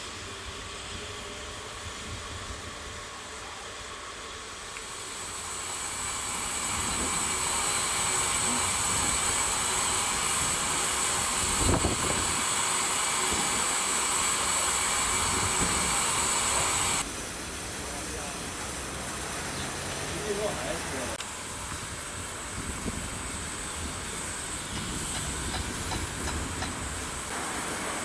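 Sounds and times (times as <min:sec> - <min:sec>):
steam hissing from locomotive: 0:00.0 - 0:28.0.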